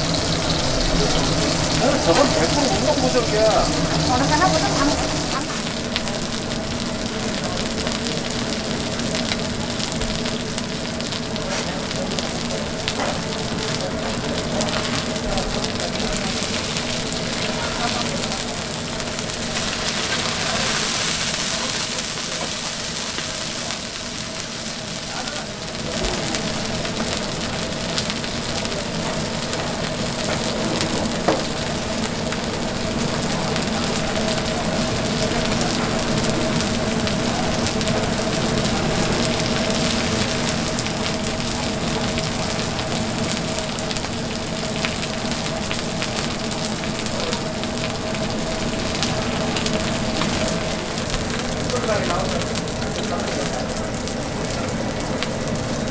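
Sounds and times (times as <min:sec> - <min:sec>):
pancakes sizzling in oil: 0:00.0 - 0:55.9.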